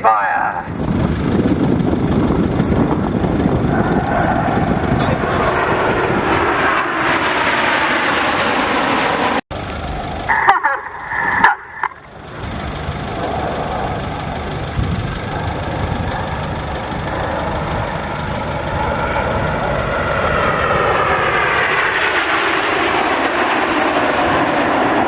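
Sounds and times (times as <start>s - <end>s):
jet aircraft flying past: 0.0s - 25.0s.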